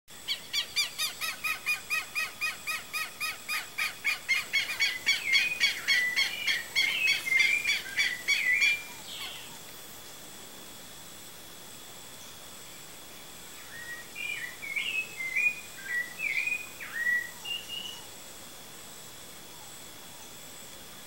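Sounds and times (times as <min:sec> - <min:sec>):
high insect whine: 0:00.1 - 0:21.0.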